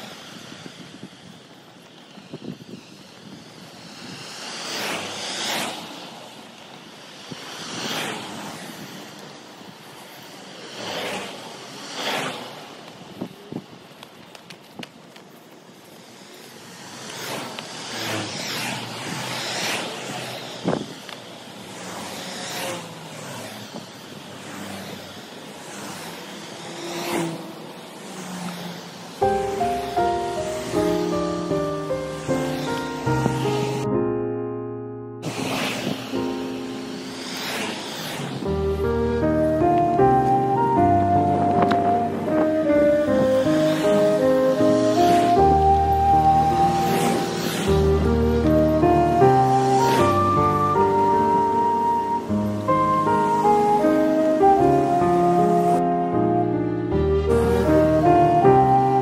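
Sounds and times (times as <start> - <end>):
cars passing by: 0.0 - 59.0.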